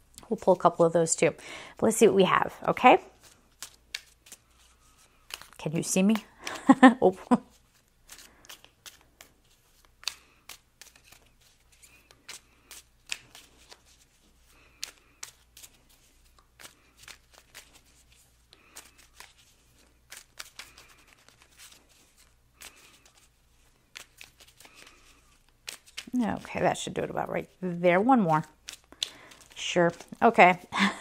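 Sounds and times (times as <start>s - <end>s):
cards being shuffled: 2.6s - 6.6s, 7.3s - 30.7s.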